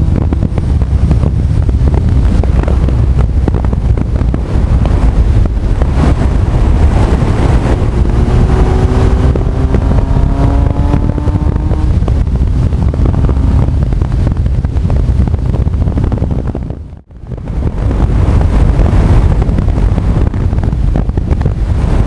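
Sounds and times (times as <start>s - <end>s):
motorcycle engine: 0.0s - 22.0s
wind noise on microphone: 0.0s - 22.0s.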